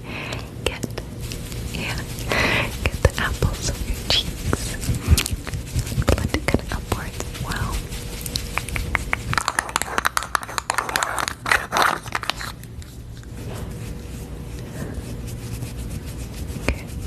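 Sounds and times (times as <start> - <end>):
soft steady brushing: 0.4 - 17.0
crackling and scratching: 0.7 - 17.0.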